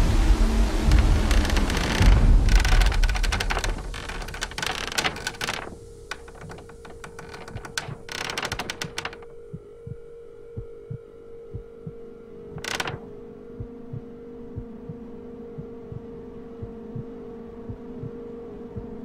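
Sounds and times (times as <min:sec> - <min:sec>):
slow heartbeat thumps: 0:00.0 - 0:12.0, 0:12.6 - 0:17.1
low drone: 0:00.0 - 0:19.0.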